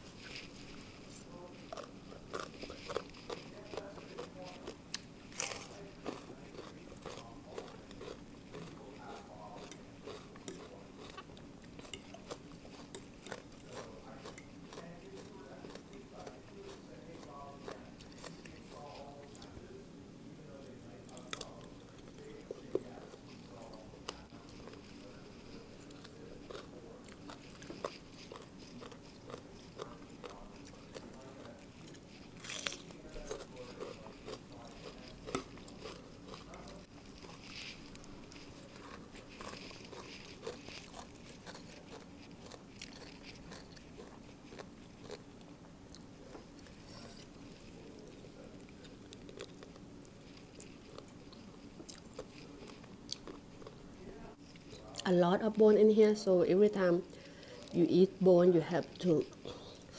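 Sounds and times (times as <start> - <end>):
chewing and crunching: 0.0 - 19.8, 20.5 - 55.1.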